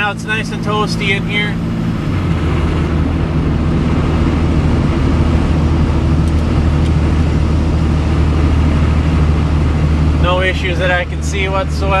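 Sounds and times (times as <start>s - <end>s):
diesel engine droning: 0.0s - 12.0s
road noise: 0.0s - 12.0s.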